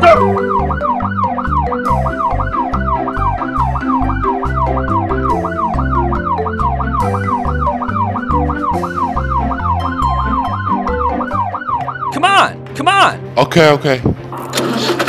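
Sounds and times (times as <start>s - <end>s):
fast yelp siren: 0.0s - 12.6s
music with stepping bass line: 0.0s - 12.7s.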